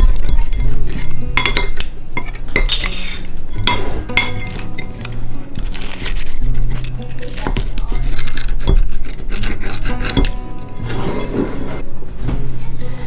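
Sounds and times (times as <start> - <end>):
utensils clinking against plates: 0.0 - 11.8.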